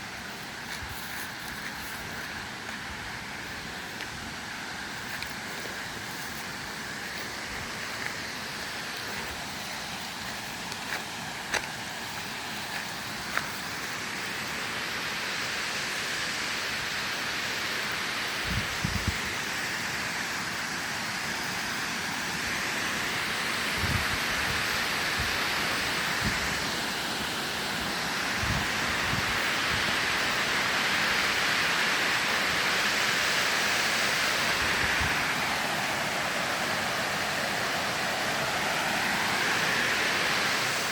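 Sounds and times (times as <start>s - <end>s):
waterfall rushing: 0.0s - 18.4s, 19.1s - 40.9s.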